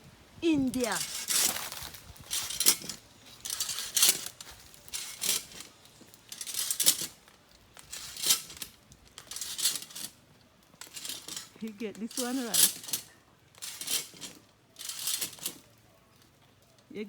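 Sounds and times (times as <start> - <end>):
climbing device scraping tree trunk: 0.5 - 15.8.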